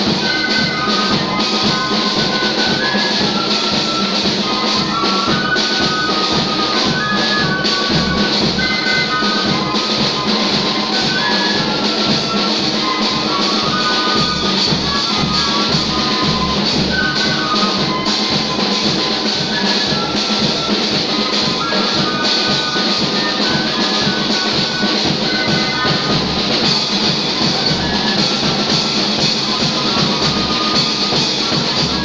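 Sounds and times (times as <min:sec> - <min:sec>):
loud music with drum beat: 0:00.0 - 0:32.0.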